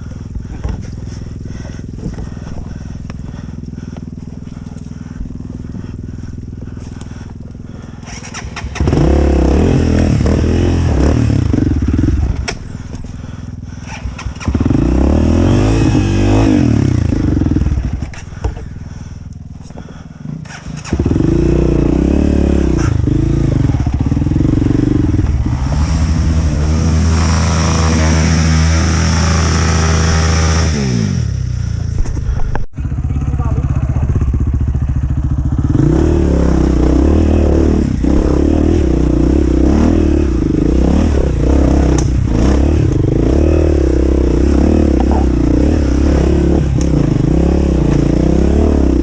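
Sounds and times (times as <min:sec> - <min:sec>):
dirt bike engine revving: 0:00.0 - 0:19.2, 0:19.8 - 0:32.3, 0:32.9 - 0:49.0.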